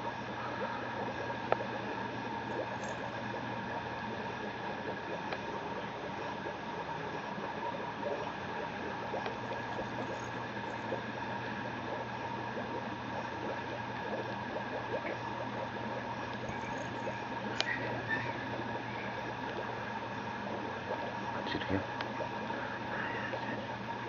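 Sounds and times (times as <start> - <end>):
background hum and hiss: 0.0 - 24.0.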